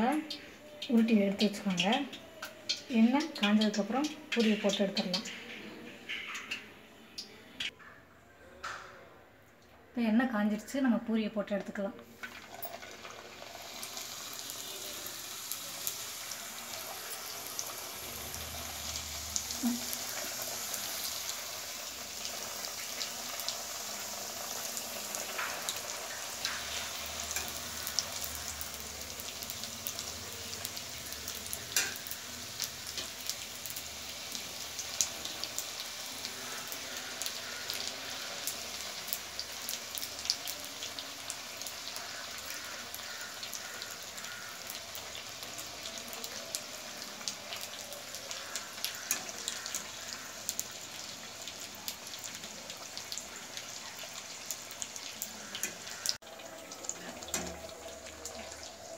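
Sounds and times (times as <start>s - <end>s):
food deep-frying in oil: 0.0s - 7.8s, 11.6s - 58.9s.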